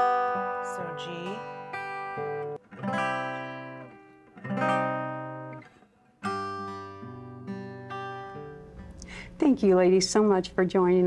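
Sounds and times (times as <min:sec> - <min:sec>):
acoustic guitar chord strummed: 0:00.0 - 0:09.6.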